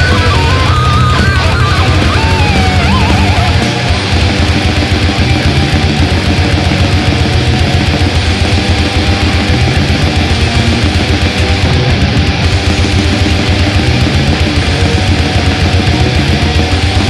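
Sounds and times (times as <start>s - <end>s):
distorted metal guitars: 0.0s - 17.0s
fast dense drumming: 0.0s - 17.0s.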